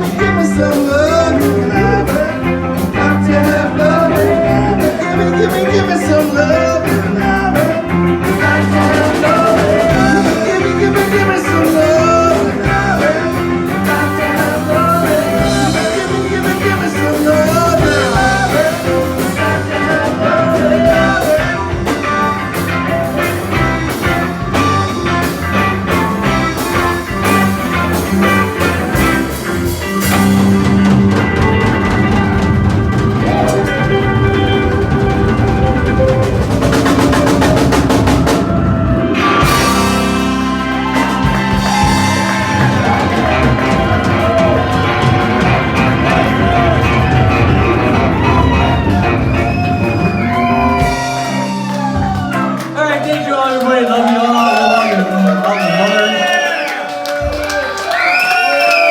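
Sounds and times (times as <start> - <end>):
rock and roll band playing: 0.0 - 58.9.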